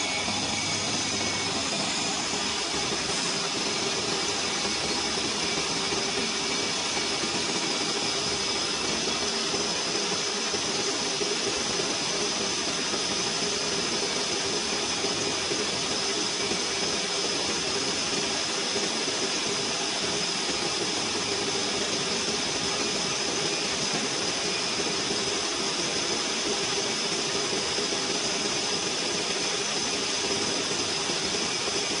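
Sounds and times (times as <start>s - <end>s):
high whine: 0.0s - 32.0s
metal lathe cutting steel: 0.0s - 32.0s.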